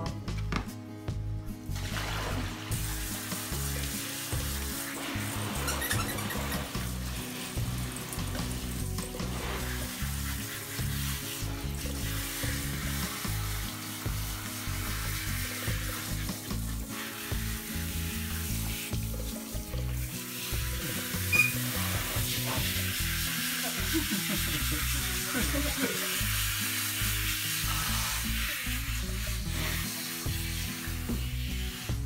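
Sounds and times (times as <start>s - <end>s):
background music with low notes: 0.0s - 32.0s
shower head spraying water: 1.6s - 32.0s.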